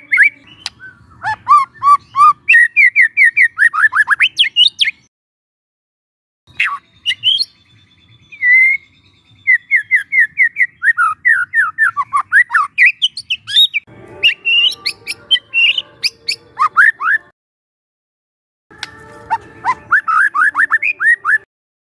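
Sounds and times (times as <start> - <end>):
bird singing whistled notes: 0.0 - 5.1, 6.5 - 17.3, 18.8 - 21.5.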